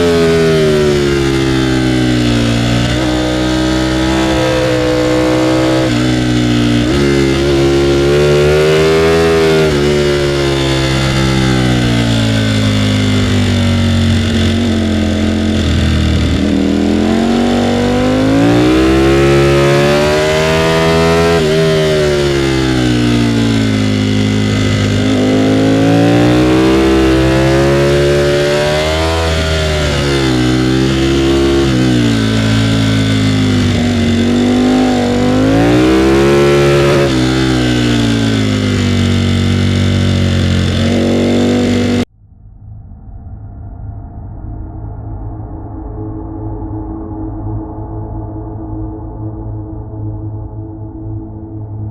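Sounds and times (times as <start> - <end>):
motorcycle engine revving: 0.0 - 42.1.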